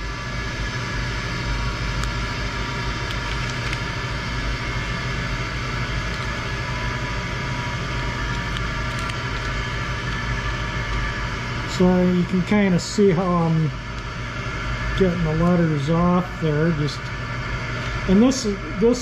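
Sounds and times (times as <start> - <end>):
mechanical hum with hiss: 0.0 - 19.0.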